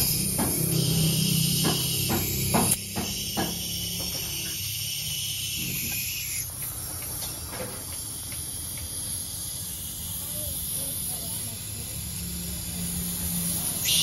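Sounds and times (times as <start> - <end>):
refrigerant hissing: 0.0 - 14.0.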